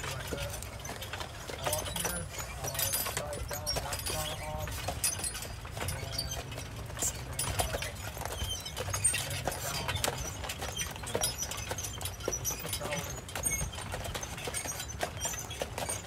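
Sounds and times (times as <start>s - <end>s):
carriage wheels rumbling: 0.0s - 16.0s
harness and chains rattling: 0.0s - 16.0s
horse hooves on gravel: 0.0s - 16.0s.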